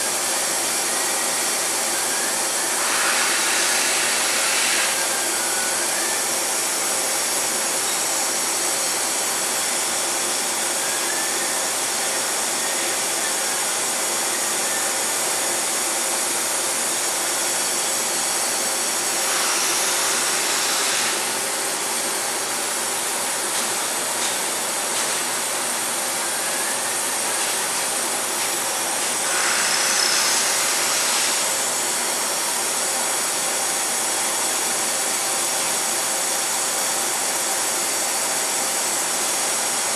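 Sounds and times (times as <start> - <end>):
machine hum and hiss: 0.0 - 39.9.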